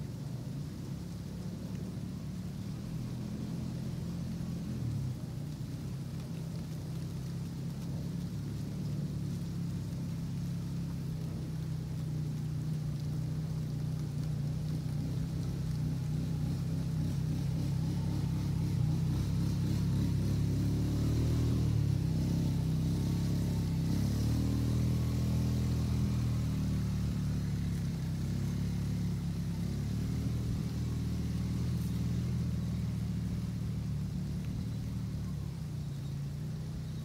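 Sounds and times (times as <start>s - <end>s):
faint steady hiss: 0.0s - 37.0s
low engine drone: 0.0s - 37.0s.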